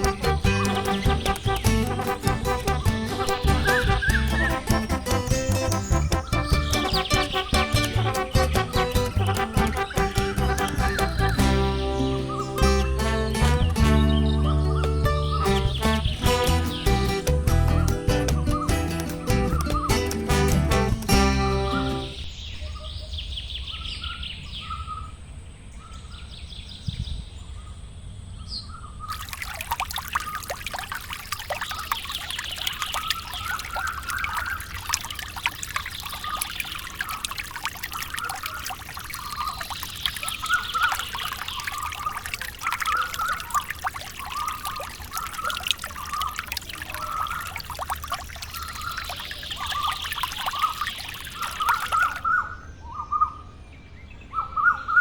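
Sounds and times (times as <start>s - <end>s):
running water trickle: 0.0s - 22.4s, 29.1s - 52.6s
birds chirping: 0.0s - 25.2s, 28.4s - 55.0s.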